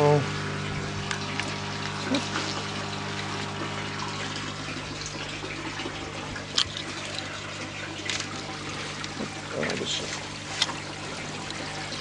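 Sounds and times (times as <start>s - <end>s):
water trickling into tank: 0.0s - 12.0s.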